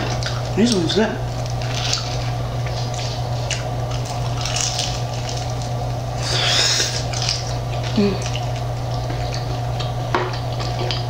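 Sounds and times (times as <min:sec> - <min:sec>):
crunchy chewing: 0:00.0 - 0:11.0
steady low hum: 0:00.0 - 0:11.0.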